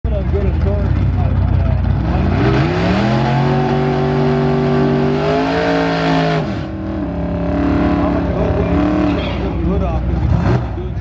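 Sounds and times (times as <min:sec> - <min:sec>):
car engine revving high: 0:01.8 - 0:11.0.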